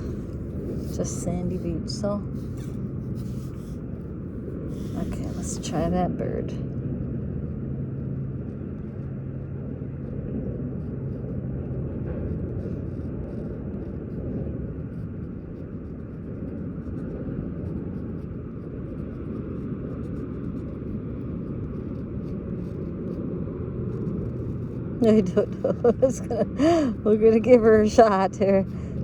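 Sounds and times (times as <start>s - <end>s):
faint hum: 0.0s - 29.0s
low outdoor rumble: 0.0s - 29.0s.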